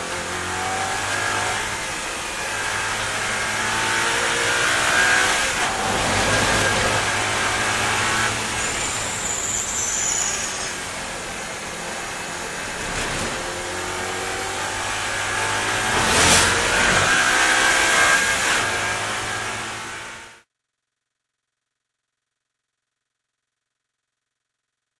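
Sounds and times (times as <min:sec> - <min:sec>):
race car engine: 0:00.0 - 0:20.4
road and wind noise: 0:00.0 - 0:20.4.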